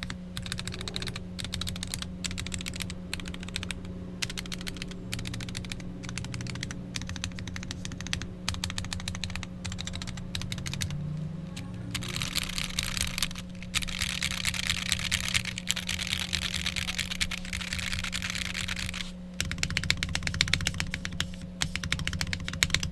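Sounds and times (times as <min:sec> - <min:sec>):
keyboard keys clacking: 0:00.0 - 0:22.9
steady low hum: 0:00.0 - 0:22.9.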